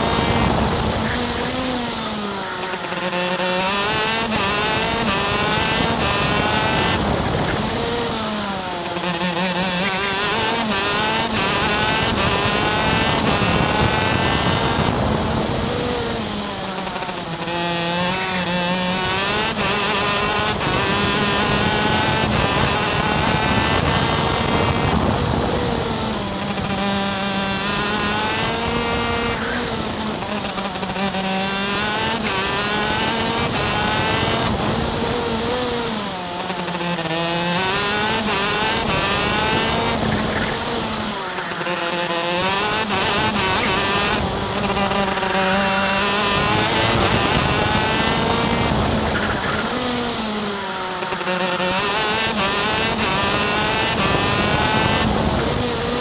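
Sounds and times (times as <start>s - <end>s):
kart engine at racing speed: 0.0s - 56.0s.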